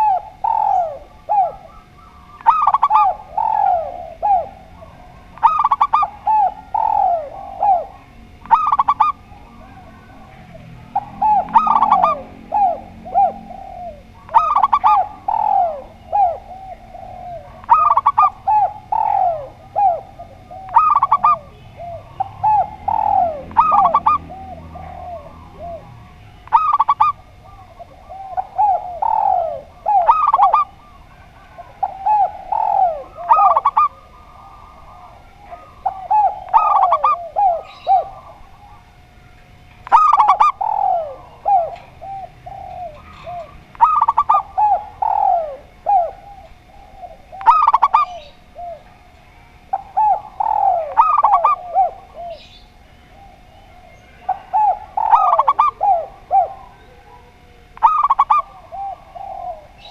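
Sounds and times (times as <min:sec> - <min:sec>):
doves cooing: 0:00.0 - 0:59.9.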